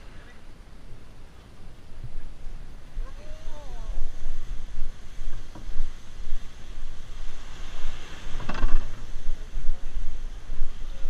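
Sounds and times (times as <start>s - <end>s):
small surf washing on shore: 0.0s - 11.0s
wind buffeting microphone: 0.0s - 11.0s.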